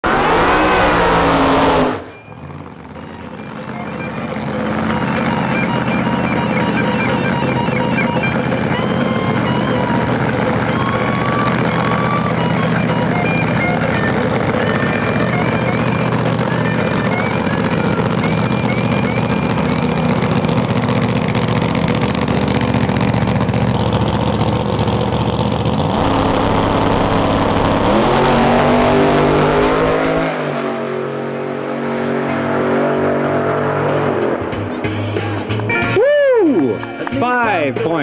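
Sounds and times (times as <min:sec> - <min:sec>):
loud racing car engine: 0:00.0 - 0:38.0.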